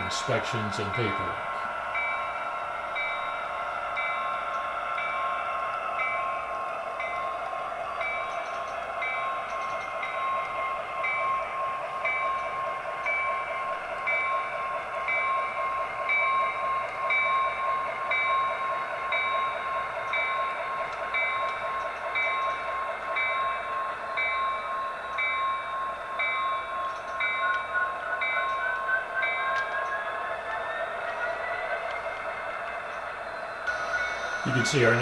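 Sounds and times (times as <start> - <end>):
locomotive bell ringing: 0.0 - 35.0.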